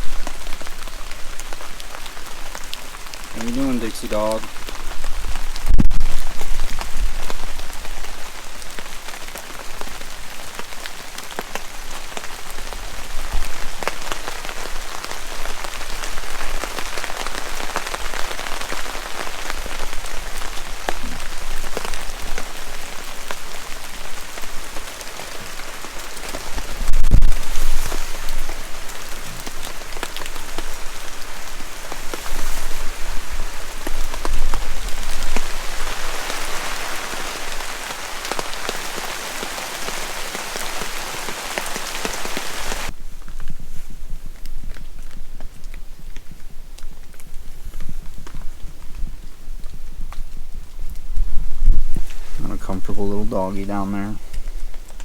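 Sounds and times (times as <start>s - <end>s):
raindrops striking close by: 0.0s - 55.0s
steady rain falling: 0.0s - 55.0s.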